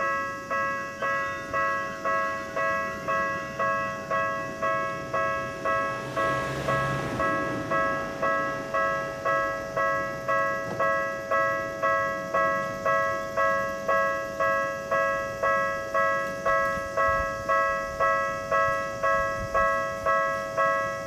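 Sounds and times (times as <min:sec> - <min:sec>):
level crossing warning bell: 0:00.0 - 0:21.0.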